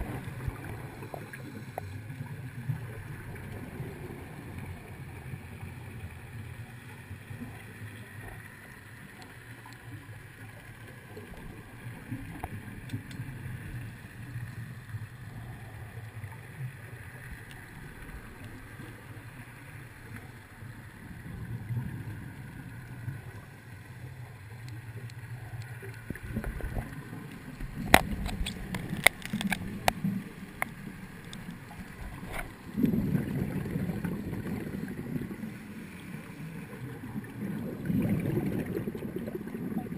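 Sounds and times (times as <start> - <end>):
underwater regulator bubbles: 0.0 - 6.1, 7.3 - 39.9.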